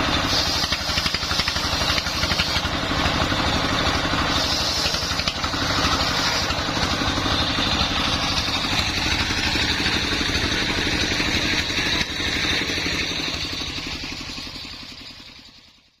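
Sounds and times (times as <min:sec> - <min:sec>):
diesel engine chugging: 0:00.0 - 0:16.0.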